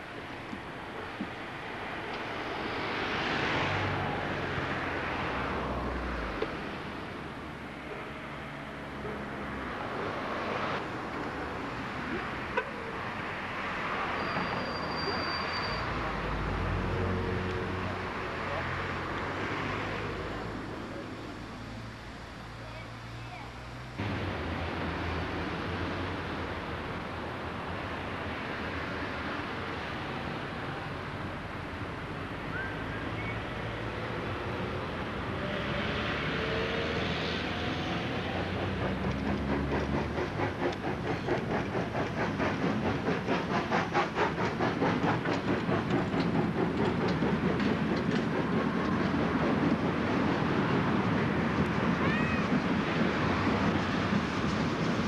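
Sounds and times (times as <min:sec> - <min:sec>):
steam locomotive chuffing: 0:06.3 - 0:55.0
steam hiss: 0:09.8 - 0:55.0.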